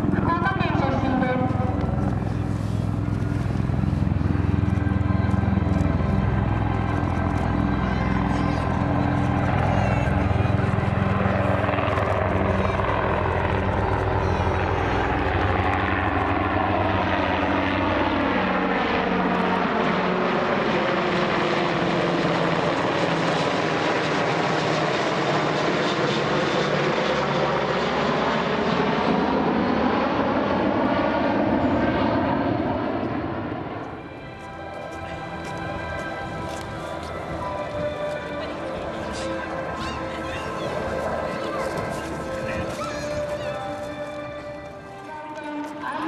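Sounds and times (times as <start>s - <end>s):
helicopter rotor beat: 0.0s - 46.0s
jet engine noise: 0.0s - 46.0s.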